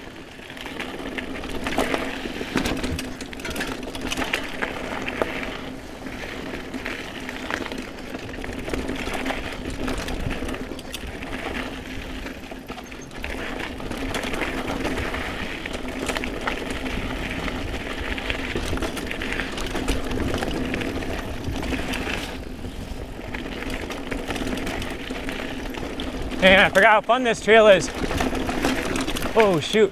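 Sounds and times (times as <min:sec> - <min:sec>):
bike rattling over bumps: 0:00.0 - 0:29.9
bike tyres rolling on dirt: 0:00.0 - 0:29.9.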